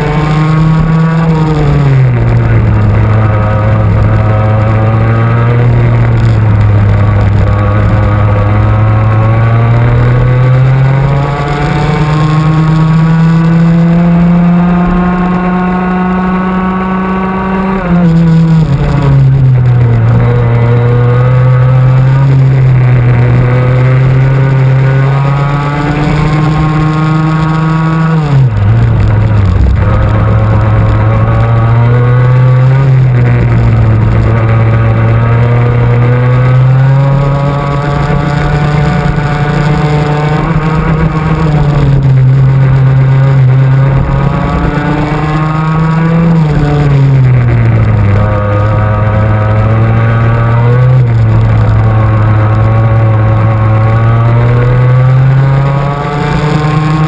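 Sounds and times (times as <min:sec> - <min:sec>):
kart engine at full throttle: 0:00.0 - 0:57.0.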